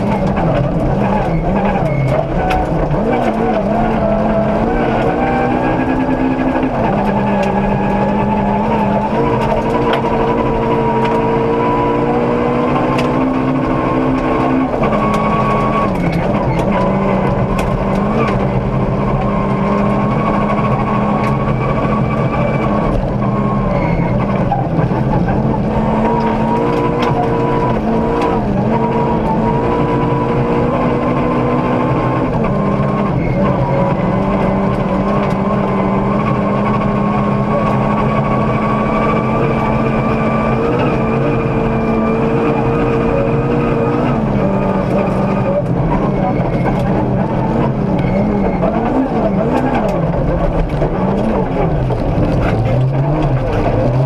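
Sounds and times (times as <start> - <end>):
gravel striking car: 0.0 - 12.0, 12.6 - 54.0
car engine at high revs: 0.0 - 54.0.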